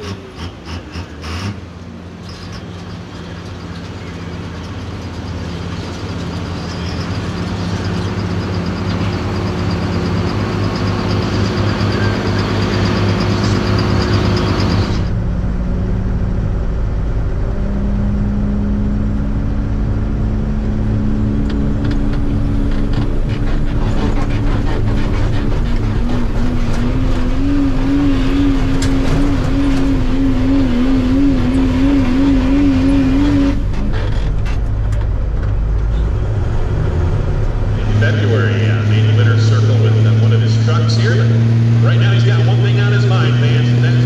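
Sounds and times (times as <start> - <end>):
diesel truck engine under load: 0.0 - 44.0.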